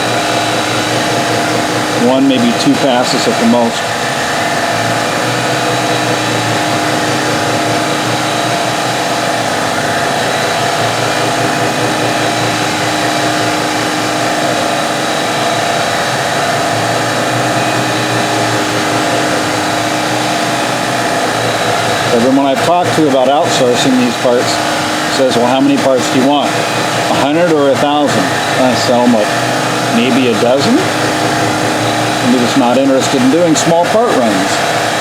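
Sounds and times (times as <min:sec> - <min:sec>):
milling machine whining: 0:00.0 - 0:35.0.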